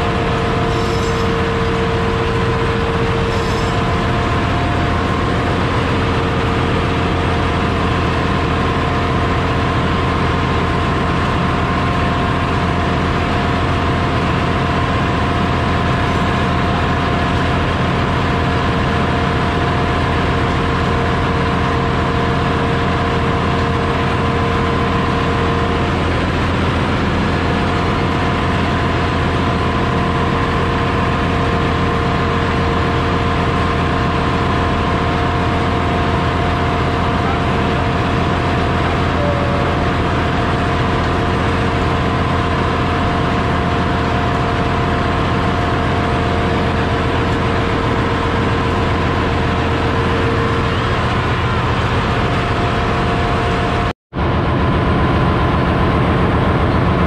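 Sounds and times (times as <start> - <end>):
engine room machinery drone: 0.0 - 57.0.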